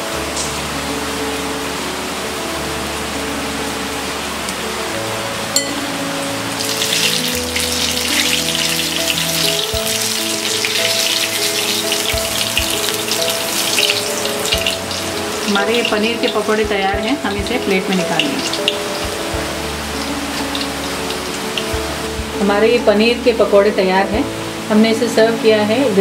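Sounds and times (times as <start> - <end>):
background music with held notes: 0.0 - 26.0
food deep-frying in sizzling oil: 0.0 - 26.0.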